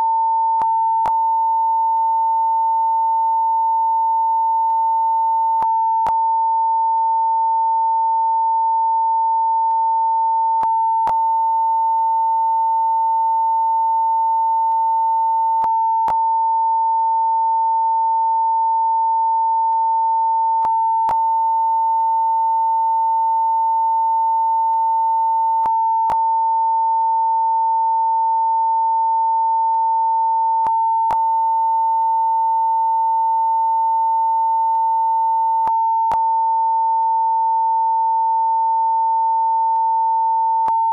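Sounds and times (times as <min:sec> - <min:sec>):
censor beep tone: 0:00.0 - 0:40.9.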